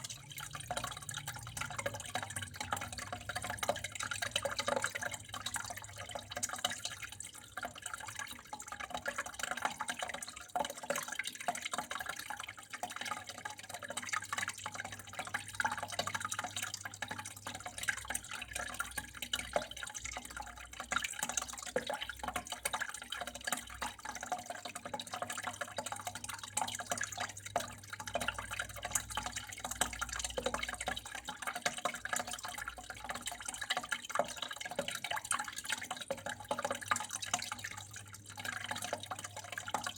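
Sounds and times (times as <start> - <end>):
water drips and splashes: 0.0 - 39.9
water trickling: 0.0 - 39.9.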